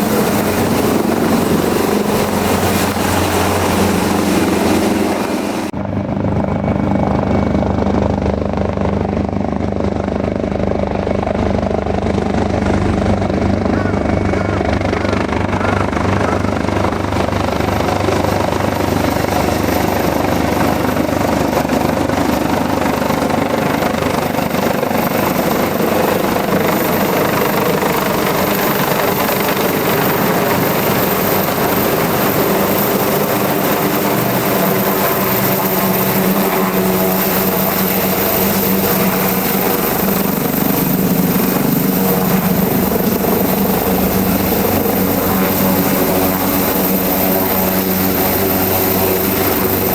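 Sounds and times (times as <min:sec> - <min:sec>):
helicopter rotor and engine noise: 0:00.0 - 0:49.9.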